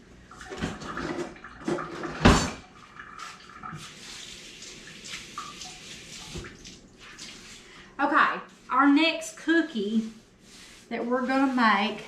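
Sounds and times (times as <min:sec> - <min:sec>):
faint running water: 0:00.0 - 0:12.0.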